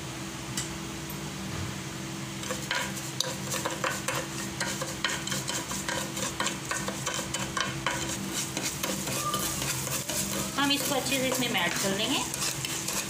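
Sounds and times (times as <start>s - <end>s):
steady low hum: 0.0s - 13.0s
sugar sizzling in frying pan: 2.3s - 13.0s
spatula scraping pan: 2.4s - 13.0s.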